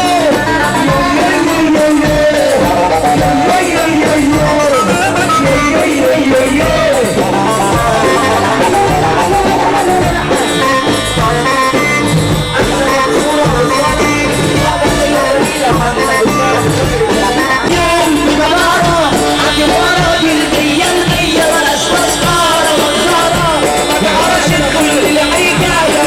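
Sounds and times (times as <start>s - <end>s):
band playing a song: 0.0s - 26.0s.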